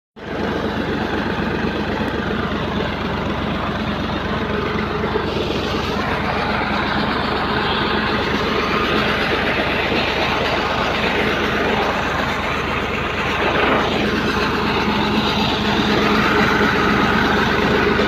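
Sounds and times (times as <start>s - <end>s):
tractor engine running: 0.2s - 18.0s
water rushing into tank: 0.2s - 18.0s.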